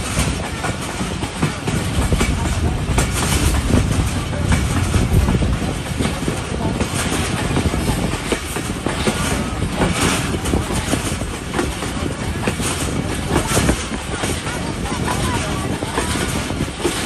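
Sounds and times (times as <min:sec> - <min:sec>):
train running noise: 0:00.0 - 0:17.0
wheels clattering on rails: 0:00.0 - 0:17.0.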